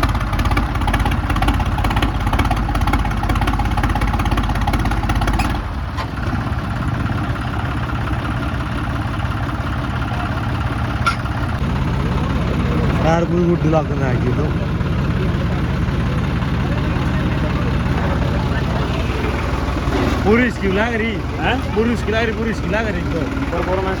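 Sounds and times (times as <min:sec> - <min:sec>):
tractor engines running: 0:00.0 - 0:24.0.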